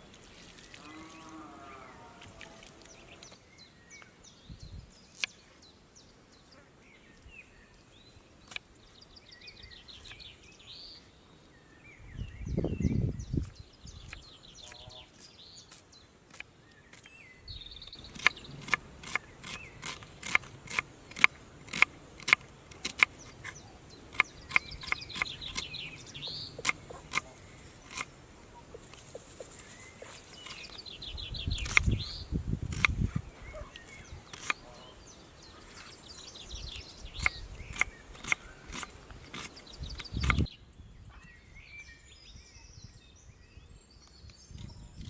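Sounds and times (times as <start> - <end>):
birds twittering: 0.4 - 45.0.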